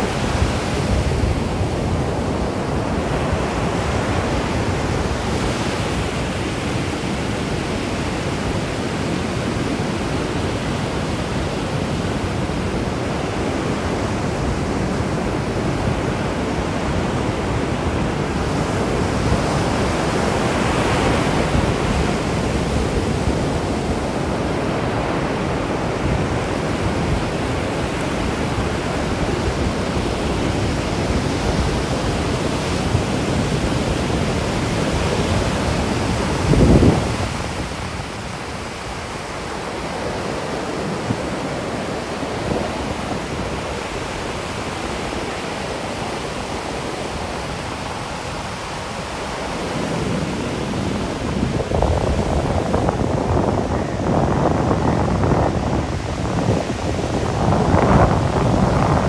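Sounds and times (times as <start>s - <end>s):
sea surf breaking on beach: 0.0s - 59.0s
wind buffet on microphone: 0.0s - 59.0s.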